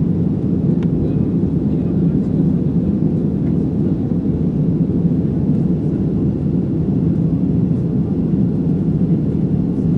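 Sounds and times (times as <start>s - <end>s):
jet engine rumble in cabin: 0.0s - 9.9s.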